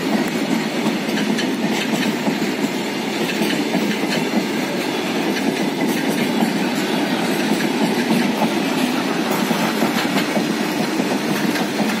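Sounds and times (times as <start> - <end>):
freight train rolling past: 0.0 - 12.0
wheels clicking over rail joints: 0.0 - 12.0.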